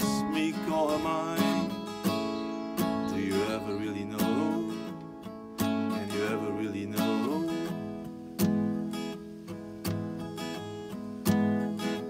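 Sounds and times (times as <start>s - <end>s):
acoustic guitar strummed chords: 0.0s - 12.0s.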